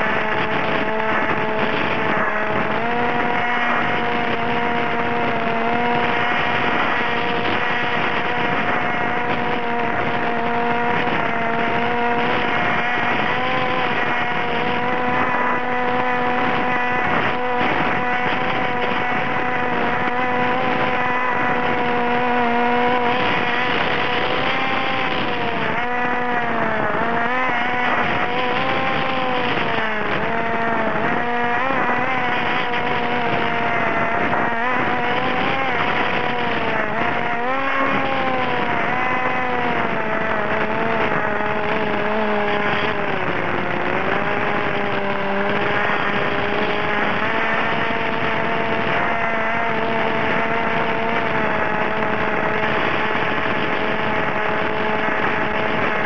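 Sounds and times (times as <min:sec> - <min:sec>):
model aircraft motor running: 0:00.0 - 0:56.0.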